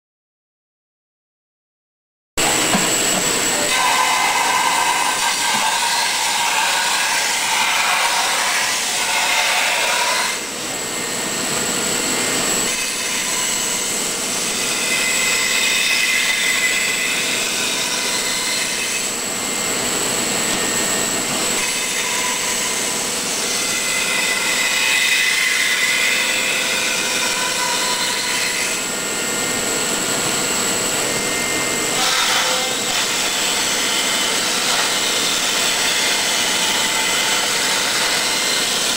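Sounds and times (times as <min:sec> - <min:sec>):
end mill cutting foam: 0:02.4 - 0:38.9
milling machine whine: 0:02.4 - 0:38.9.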